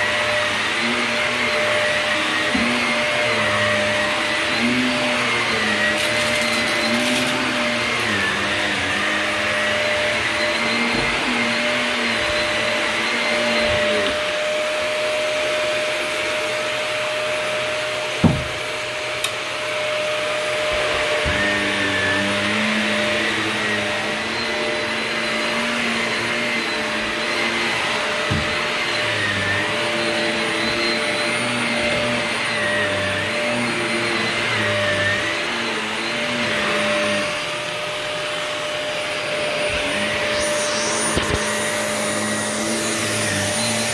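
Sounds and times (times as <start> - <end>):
vacuum cleaner on carpet: 0.0 - 43.9.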